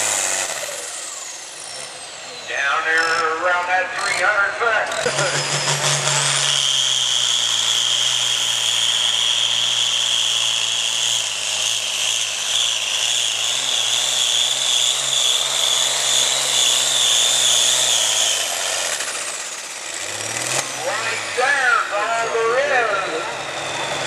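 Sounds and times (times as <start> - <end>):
diesel tractor engine under load: 0.0 - 24.0.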